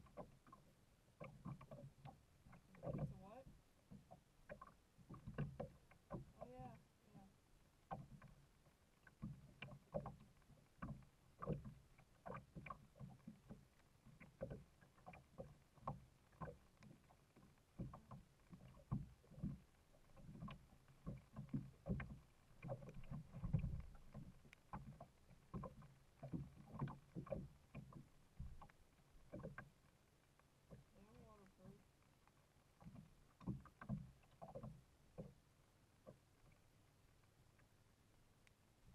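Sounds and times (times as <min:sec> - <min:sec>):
kayak paddle splashing: 0:00.0 - 0:38.9
waves slapping plastic hull: 0:00.0 - 0:38.9.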